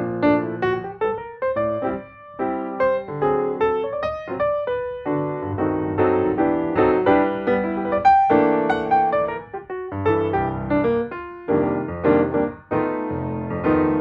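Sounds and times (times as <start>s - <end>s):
light piano melody: 0.0s - 14.0s.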